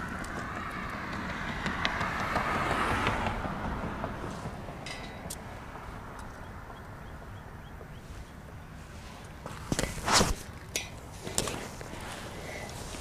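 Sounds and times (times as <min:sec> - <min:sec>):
distant traffic: 0:00.0 - 0:13.0
wind: 0:00.0 - 0:13.0.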